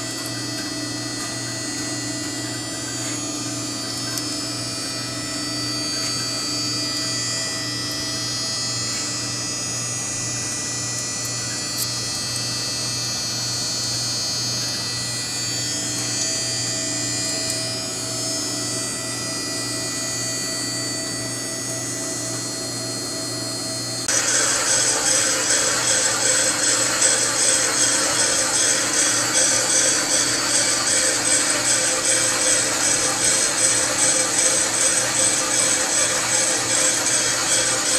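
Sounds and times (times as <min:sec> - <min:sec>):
electric motors whining hum: 0:00.0 - 0:37.9.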